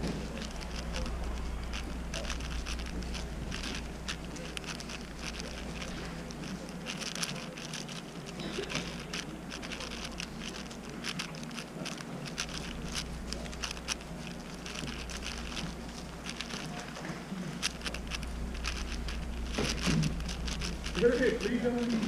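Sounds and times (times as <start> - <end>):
puzzle cube clicking: 0.0 - 22.0
steady low hum: 0.0 - 22.0.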